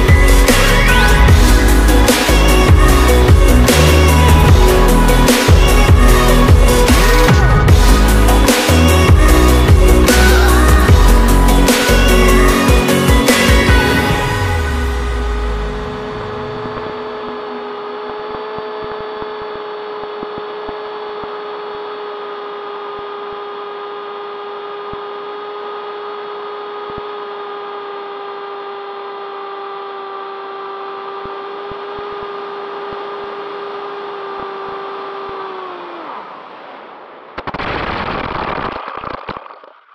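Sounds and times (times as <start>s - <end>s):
electric motor and propeller whine: 0.0s - 39.3s.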